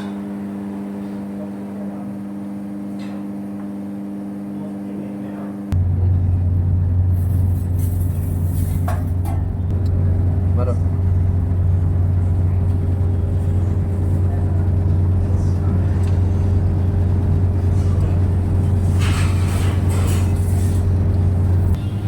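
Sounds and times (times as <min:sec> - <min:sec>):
low mechanical motor hum: 0:00.0 - 0:22.0.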